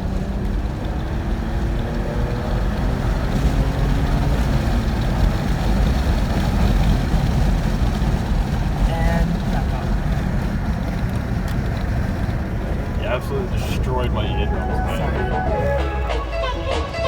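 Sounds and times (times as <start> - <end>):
car engine revving: 0.0 - 17.0
road and wind noise: 0.0 - 17.0.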